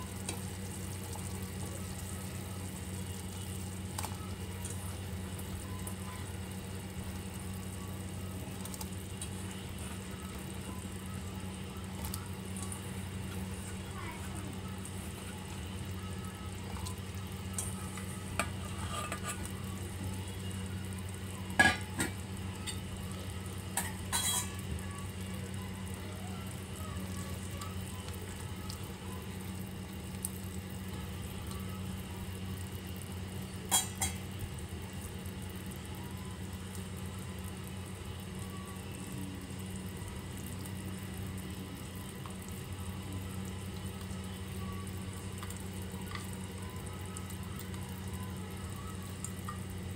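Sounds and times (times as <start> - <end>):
low hum and faint hiss: 0.0 - 49.9.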